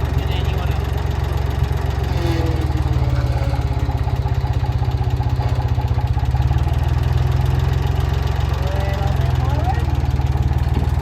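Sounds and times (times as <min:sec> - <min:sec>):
bulldozer engine idling: 0:00.0 - 0:11.0.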